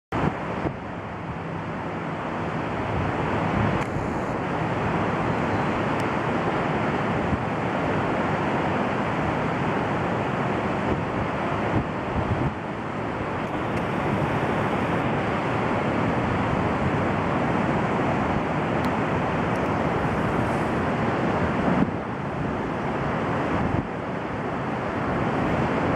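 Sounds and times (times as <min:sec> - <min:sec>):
highway traffic rushing: 0:00.1 - 0:25.9
wind on microphone: 0:00.1 - 0:25.9.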